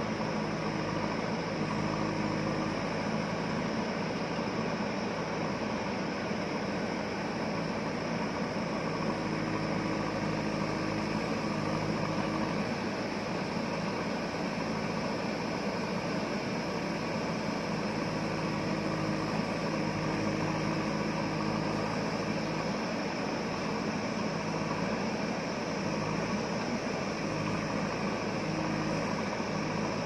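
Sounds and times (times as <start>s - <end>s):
backhoe digging: 0.0s - 30.0s
diesel engine running: 0.0s - 30.0s.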